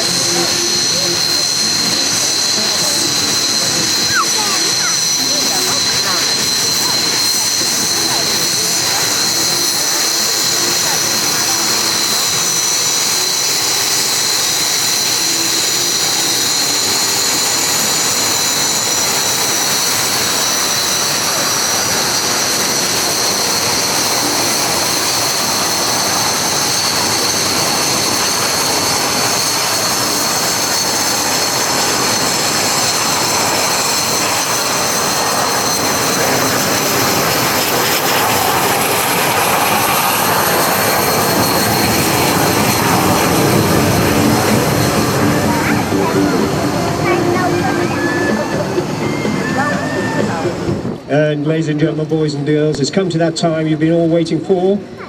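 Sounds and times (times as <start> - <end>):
jet engine rush: 0.0 - 55.0
jet engine turbine whine: 0.0 - 55.0.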